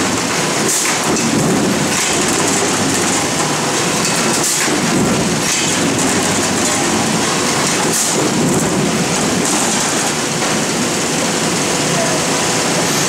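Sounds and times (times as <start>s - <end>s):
potatoes clattering on conveyor: 0.0s - 11.6s.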